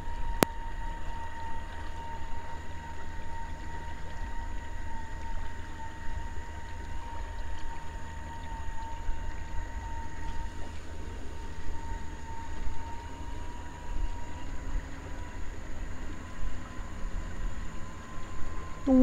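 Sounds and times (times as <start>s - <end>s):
electric boat motor whining: 0.0s - 19.0s.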